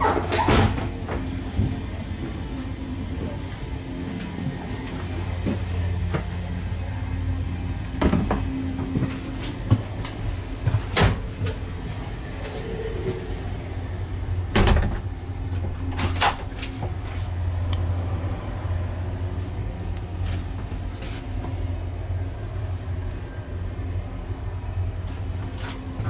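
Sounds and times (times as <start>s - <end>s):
train carriage low rumble: 0.0s - 26.0s.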